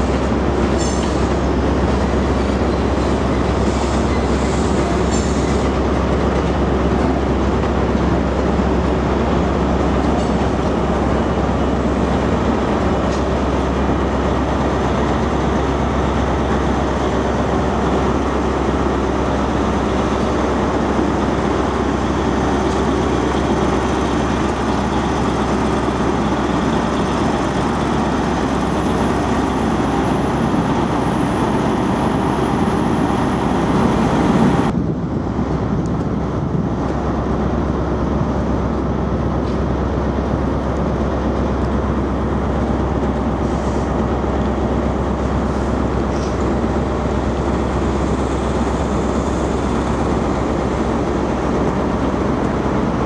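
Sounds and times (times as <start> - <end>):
diesel train engine running: 0.0 - 53.0
station rumble: 0.0 - 53.0.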